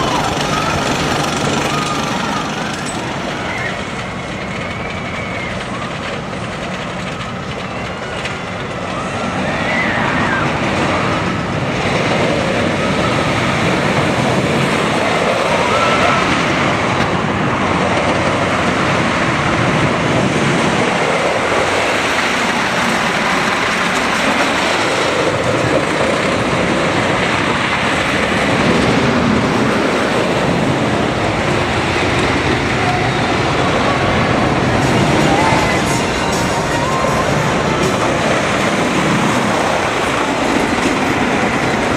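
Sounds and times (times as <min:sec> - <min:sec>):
rush of wind: 0:00.0 - 0:41.9
wheels rumbling on wooden track: 0:00.0 - 0:41.9.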